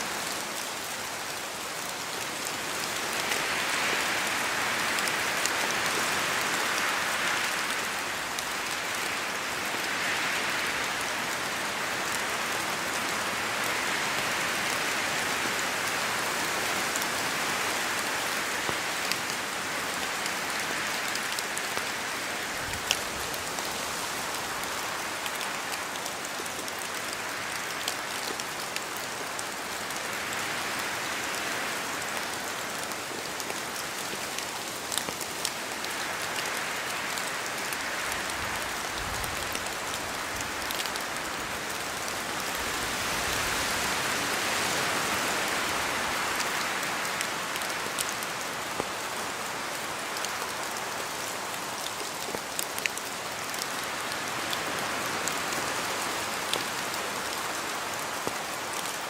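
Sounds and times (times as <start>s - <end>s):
steady rain in forest: 0.0s - 59.0s
wind gusts through trees: 0.0s - 59.0s.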